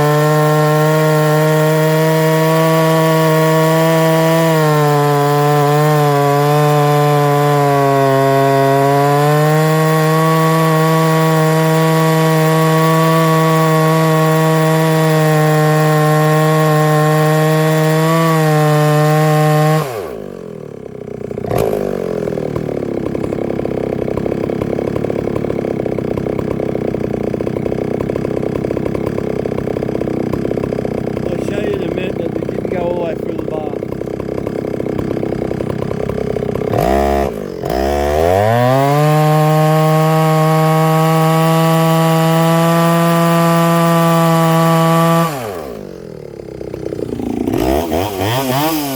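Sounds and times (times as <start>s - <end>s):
chainsaw cutting through log: 0.0s - 48.9s.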